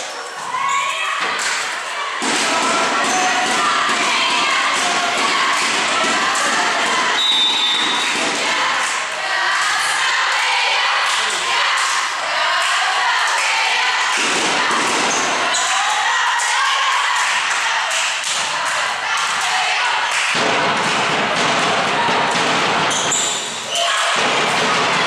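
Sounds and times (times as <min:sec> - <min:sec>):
people shouting: 0:00.4 - 0:25.0.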